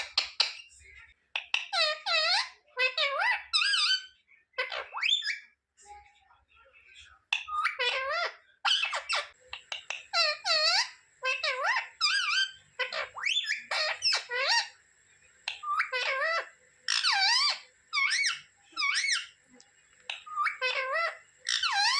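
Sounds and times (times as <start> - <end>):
parrot squawking: 0.0 - 0.7, 1.4 - 5.5, 7.4 - 14.8, 15.5 - 19.4, 20.1 - 21.9.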